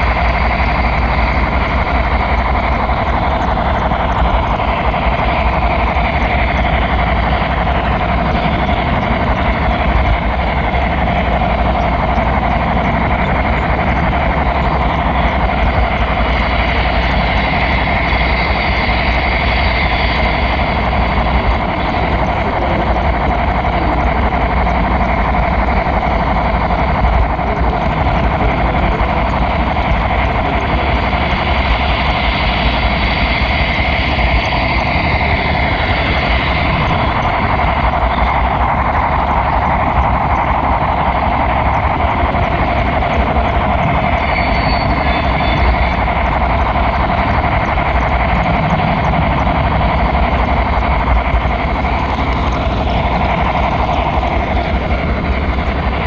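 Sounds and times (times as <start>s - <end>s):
model train rumbling on track: 0.0s - 56.0s.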